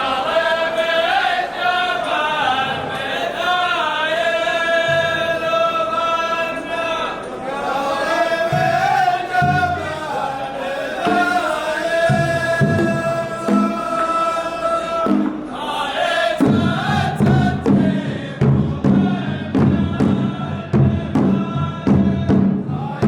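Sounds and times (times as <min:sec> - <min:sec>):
male chorus chanting in unison: 0:00.0 - 0:23.0.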